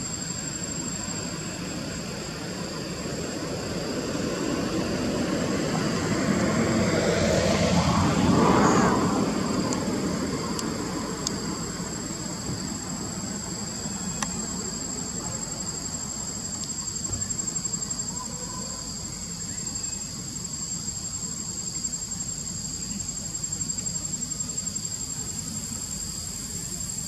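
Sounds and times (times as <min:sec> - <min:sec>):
insects whining: 0:00.0 - 0:27.0.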